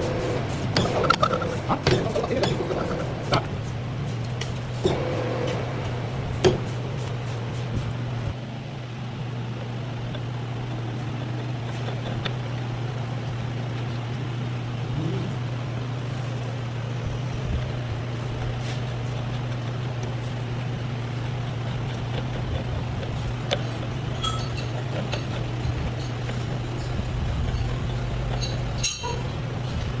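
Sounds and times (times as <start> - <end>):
rattle of metallic ticks: 0.0 - 8.1, 10.1 - 30.0
metal lathe humming: 0.0 - 30.0.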